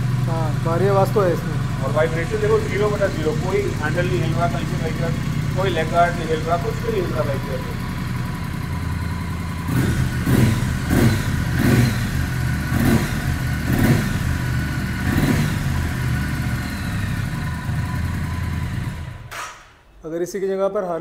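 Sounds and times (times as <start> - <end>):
motorcycle engine idling: 0.0 - 19.3
motorcycle engine revving: 0.0 - 19.6.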